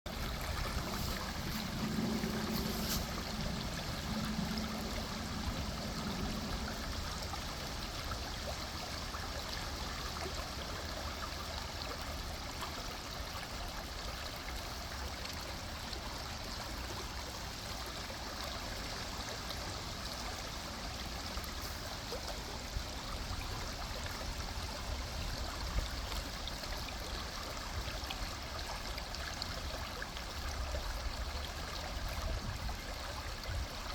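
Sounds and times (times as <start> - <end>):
river water flowing: 0.1 - 33.9.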